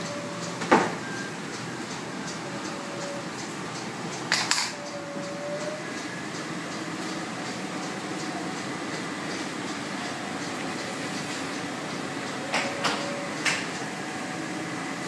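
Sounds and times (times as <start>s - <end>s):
printing press whirring: 0.0s - 15.0s.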